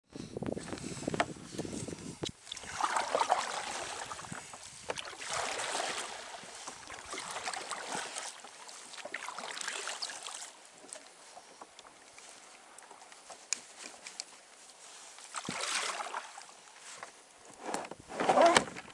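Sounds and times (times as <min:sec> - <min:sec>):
paddle splashing water: 0:00.6 - 0:17.2.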